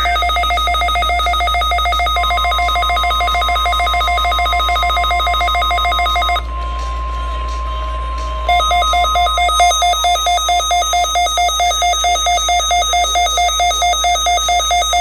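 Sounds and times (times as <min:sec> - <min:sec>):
rapid electronic beeping: 0:00.0 - 0:06.4, 0:08.5 - 0:15.0
faint steady warning tone: 0:00.0 - 0:06.5, 0:08.5 - 0:15.0.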